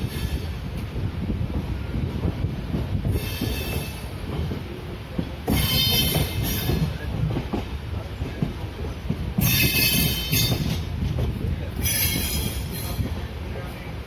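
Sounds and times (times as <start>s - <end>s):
train wheels rumbling over rail joints: 0.0s - 14.0s.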